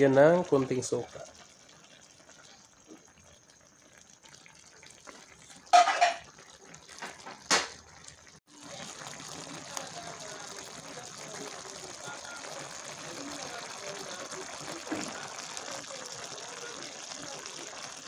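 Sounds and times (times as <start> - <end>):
sauce bubbling in a pan: 0.0 - 18.0.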